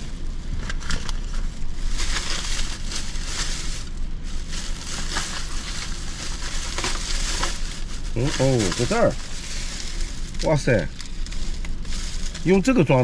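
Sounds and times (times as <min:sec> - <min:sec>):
plastic bag crinkling: 0:00.0 - 0:13.0
steady low hum: 0:00.0 - 0:13.0.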